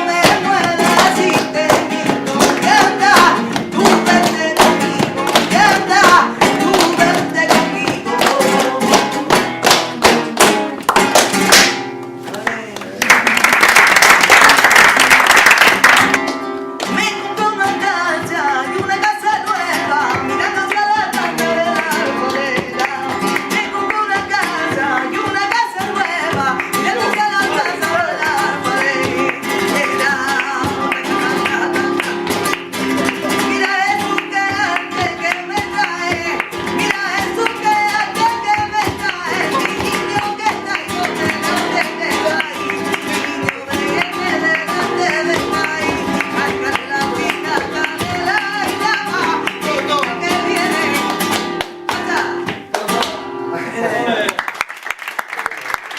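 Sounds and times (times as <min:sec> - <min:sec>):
person singing: 0:00.0 - 0:10.2, 0:16.8 - 0:54.3
plucked guitar: 0:00.0 - 0:13.0, 0:15.7 - 0:54.3.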